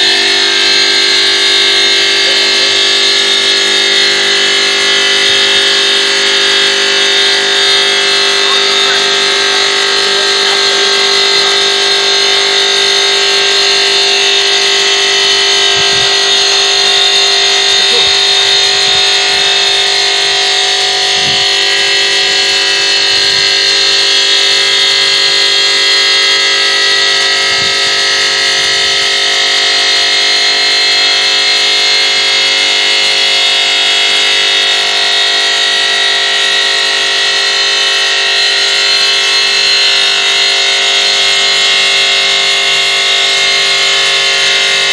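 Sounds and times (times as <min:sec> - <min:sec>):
saw blade whine cutting stone: 0:00.0 - 0:44.9.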